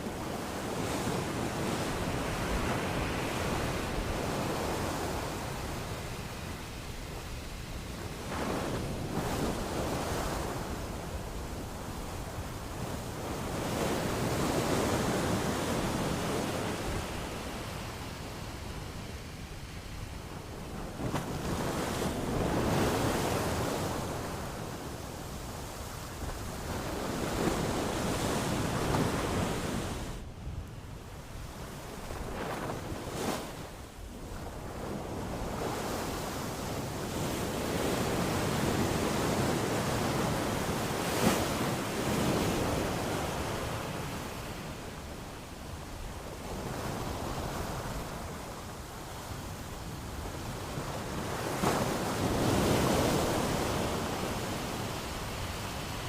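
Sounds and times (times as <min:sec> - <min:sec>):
ocean surf washing onto shore: 0:00.0 - 0:56.0.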